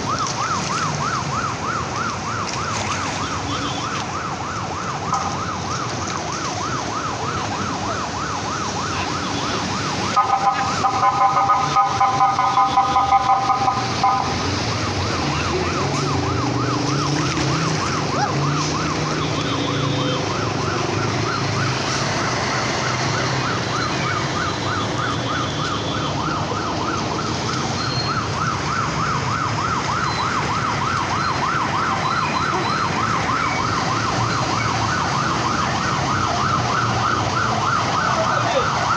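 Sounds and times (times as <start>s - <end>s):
siren warbling: 0.0s - 38.9s
traffic engine rumble: 0.0s - 38.9s.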